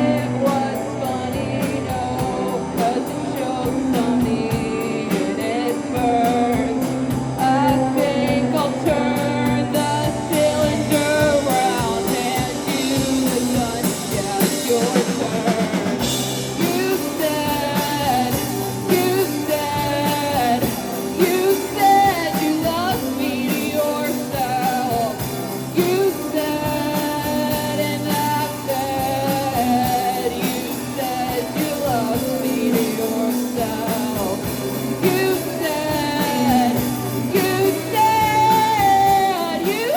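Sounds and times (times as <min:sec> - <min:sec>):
live rock band playing: 0:00.0 - 0:39.9
person singing: 0:00.0 - 0:39.9.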